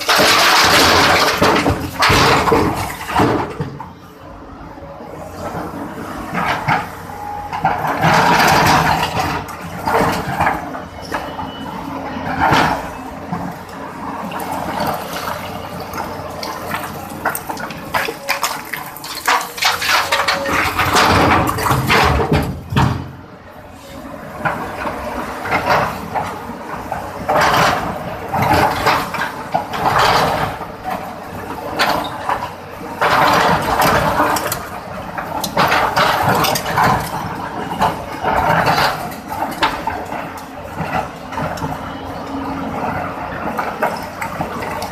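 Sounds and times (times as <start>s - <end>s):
clattering earth and stones: 0.0s - 4.0s, 7.5s - 23.3s, 24.4s - 44.9s
excavator bucket scraping ground: 0.0s - 4.0s, 5.2s - 44.9s
excavator engine hum: 0.0s - 44.9s.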